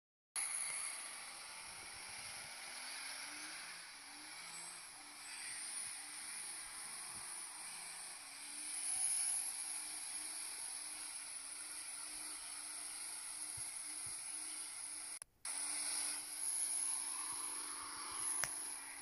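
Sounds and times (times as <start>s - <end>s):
diesel engine drone: 0.4s - 19.0s.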